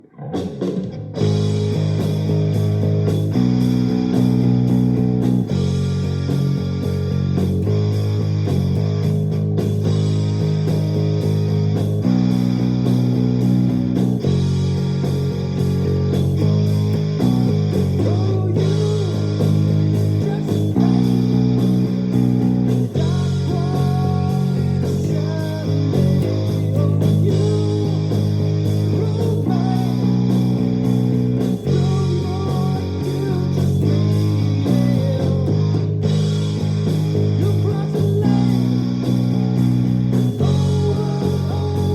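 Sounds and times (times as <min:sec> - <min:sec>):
electric bass playing: 0:00.0 - 0:41.9.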